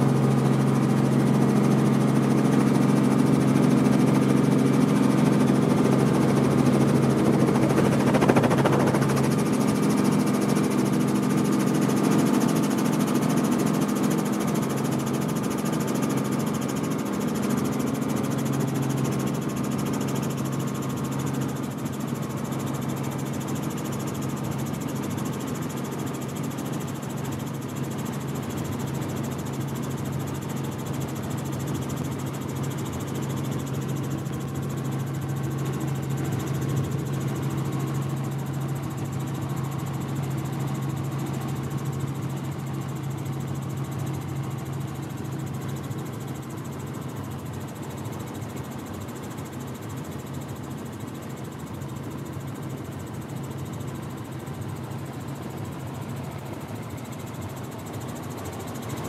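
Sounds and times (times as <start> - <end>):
aircraft engine idling: 0.0 - 48.5.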